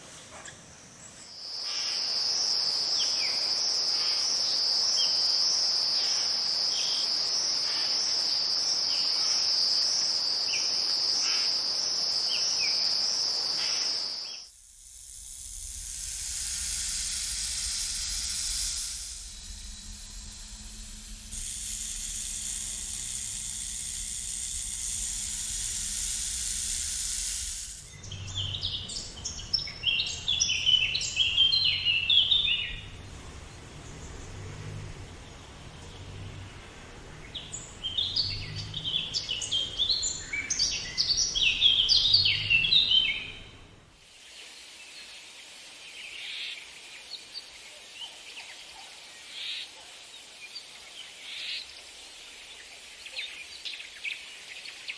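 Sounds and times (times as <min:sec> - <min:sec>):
steady high hiss: 0:00.0 - 0:54.9
insects trilling: 0:00.8 - 0:54.9.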